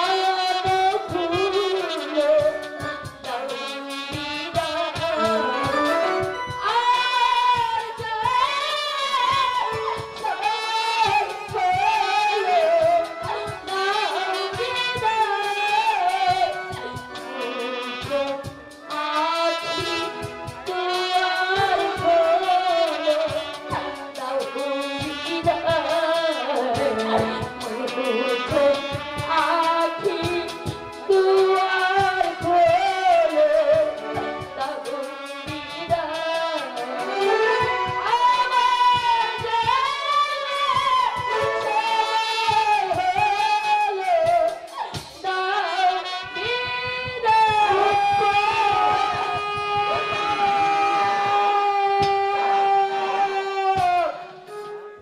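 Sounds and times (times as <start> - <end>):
drum beats: 0.0 - 55.0
live band playing: 0.0 - 55.0
woman singing into microphone: 0.0 - 55.0.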